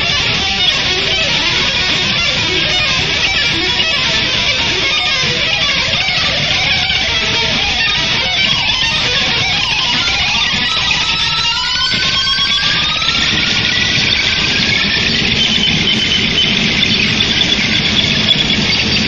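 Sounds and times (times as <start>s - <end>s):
distorted electric guitar: 0.0s - 19.0s
high squealing tone: 0.0s - 19.0s.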